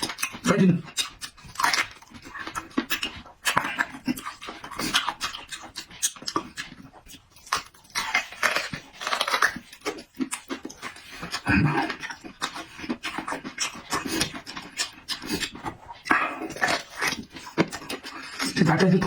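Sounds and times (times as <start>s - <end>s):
wet chewing and lip-smacking: 0.0s - 19.0s.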